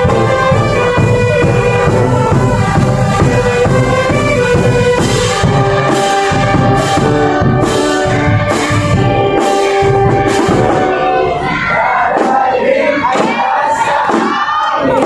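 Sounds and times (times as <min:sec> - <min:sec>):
brass band sustained chords: 0:00.0 - 0:13.1
percussion hits: 0:00.0 - 0:15.0.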